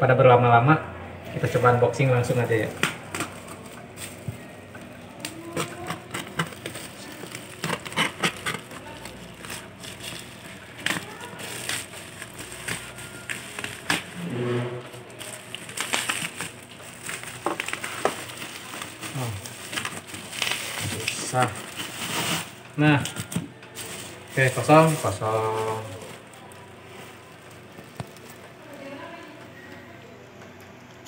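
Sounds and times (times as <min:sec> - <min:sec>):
plastic mailer crinkling: 0:02.3 - 0:14.2, 0:15.1 - 0:28.8.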